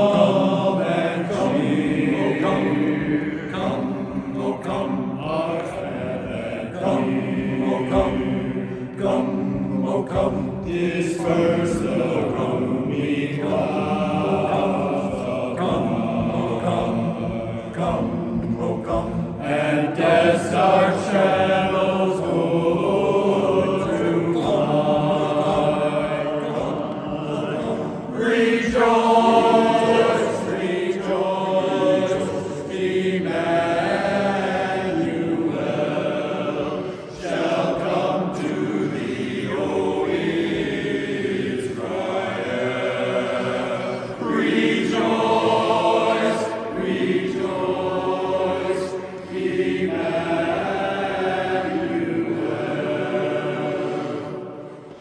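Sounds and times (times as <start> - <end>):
a cappella chorus singing: 0.0 - 55.0.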